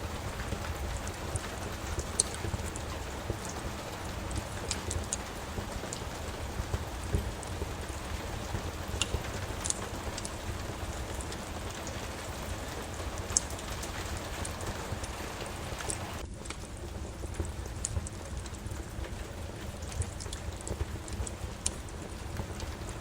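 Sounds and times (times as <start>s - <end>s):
steady rain: 0.0s - 23.0s
wood fire crackling and popping: 0.0s - 23.0s.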